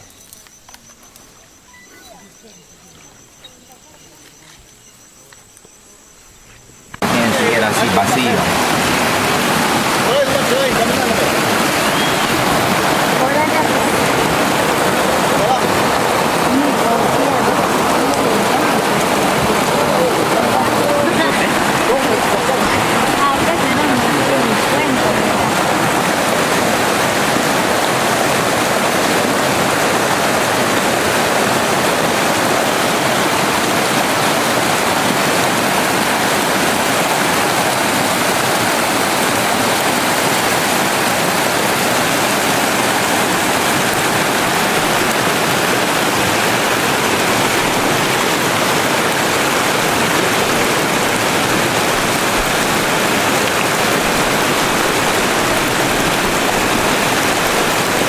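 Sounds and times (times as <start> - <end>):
river rushing over rapids: 7.0 - 58.0.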